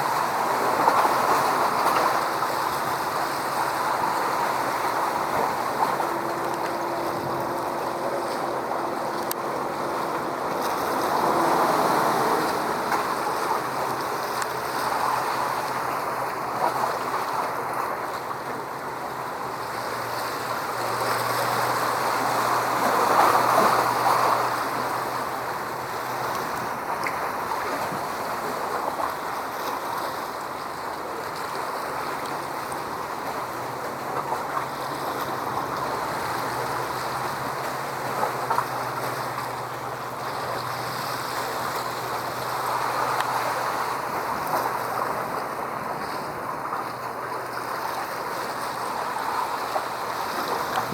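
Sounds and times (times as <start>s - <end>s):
water washing in waves: 0.0s - 50.9s.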